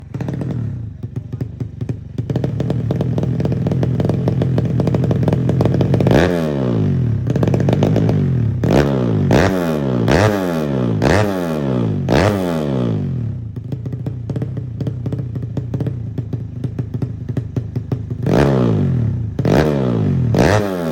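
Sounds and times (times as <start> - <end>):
motorcycle engine idling and revving: 0.0 - 20.9.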